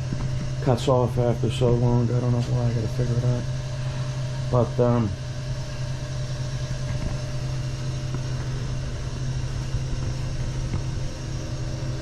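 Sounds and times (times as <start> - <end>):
gas burner rushing: 0.0 - 12.0
water heater humming: 0.0 - 12.0.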